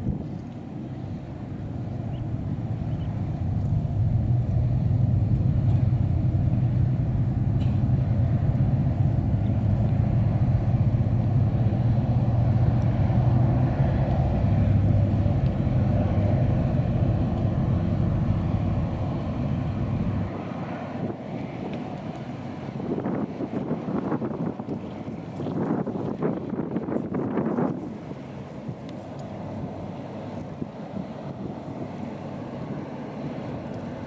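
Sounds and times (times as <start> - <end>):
ship engine rumbling: 0.0 - 34.0.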